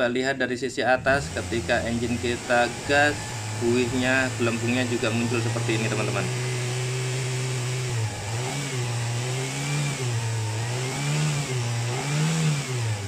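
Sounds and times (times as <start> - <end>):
car engine idling and revving: 1.0 - 13.0.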